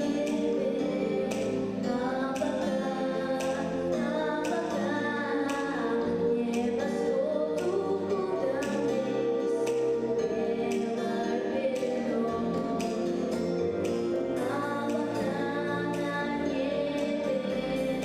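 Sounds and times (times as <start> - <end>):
instrumental accompaniment with beat: 0.0 - 18.0
young voices singing: 0.0 - 18.0.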